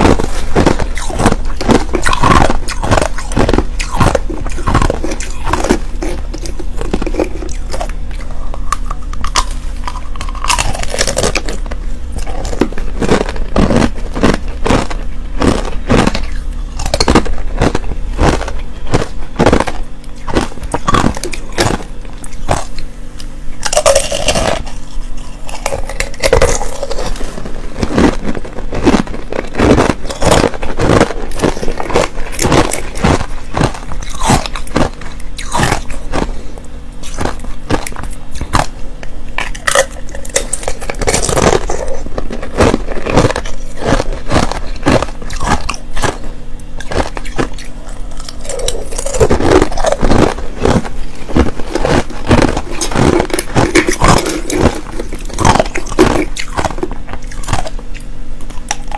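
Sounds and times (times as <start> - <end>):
crushed ice being chewed: 0.0 - 58.9.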